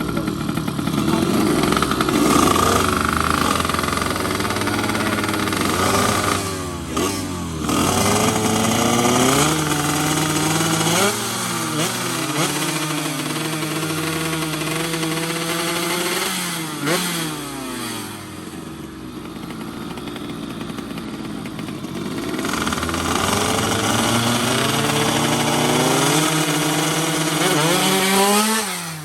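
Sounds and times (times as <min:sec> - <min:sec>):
two-stroke motorcycles revving: 0:00.0 - 0:29.0.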